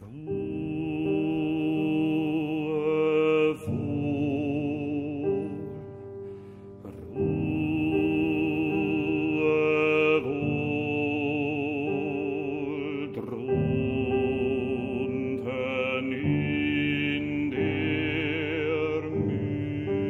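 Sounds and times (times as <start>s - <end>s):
operatic baritone singing: 0.0s - 6.1s, 6.8s - 20.0s
grand piano: 0.0s - 20.0s.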